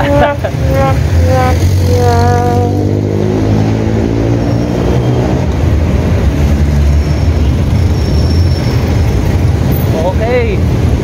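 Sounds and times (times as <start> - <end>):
road and wind rumble: 0.0 - 11.0
vehicle engine humming alongside: 0.0 - 11.0.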